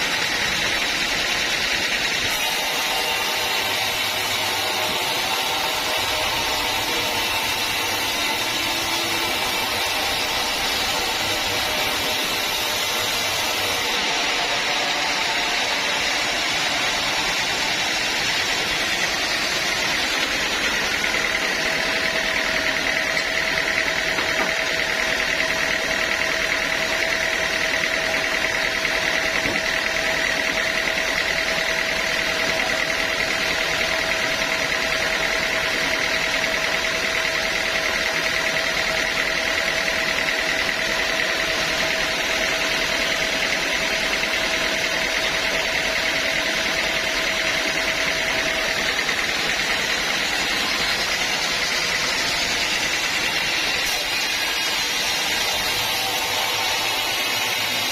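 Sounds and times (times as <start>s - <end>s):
sawmill saw running: 0.0s - 57.9s.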